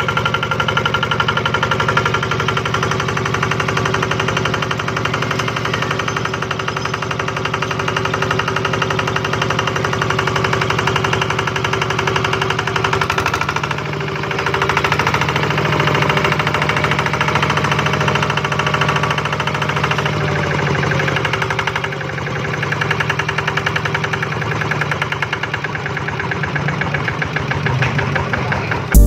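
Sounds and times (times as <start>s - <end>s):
single-cylinder diesel engine running: 0.0s - 29.0s.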